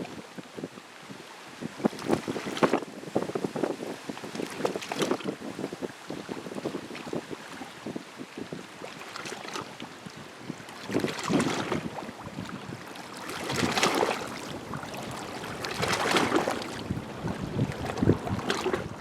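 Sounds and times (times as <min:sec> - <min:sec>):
small waves lapping at shore: 0:00.0 - 0:19.0.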